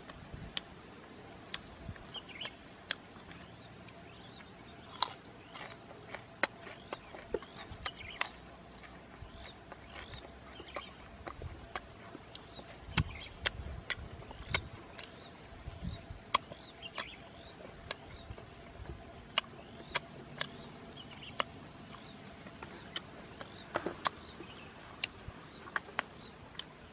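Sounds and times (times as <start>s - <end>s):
chewing clicks and smacks: 0.0s - 0.8s, 1.4s - 26.9s.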